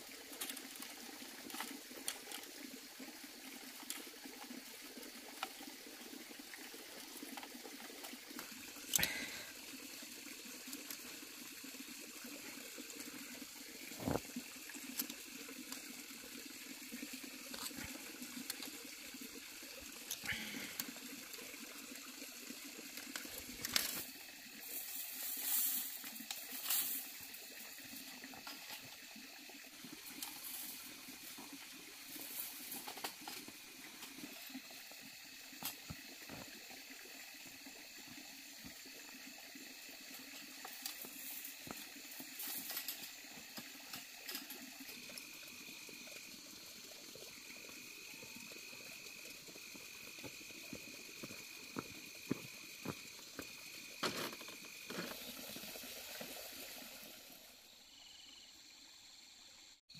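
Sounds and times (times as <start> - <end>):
trickling running water: 0.0 - 59.7.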